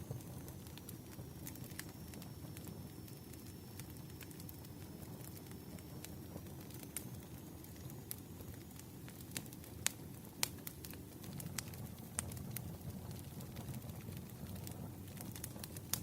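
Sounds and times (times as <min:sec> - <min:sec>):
firewood crackling and popping: 0:00.0 - 0:16.0
low fire rumble: 0:00.0 - 0:16.0.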